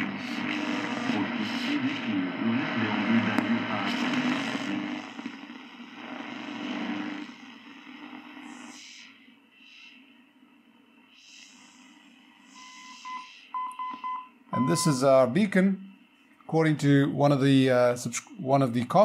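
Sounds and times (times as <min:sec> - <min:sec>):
radio station in static: 0:00.0 - 0:10.1, 0:11.1 - 0:19.0.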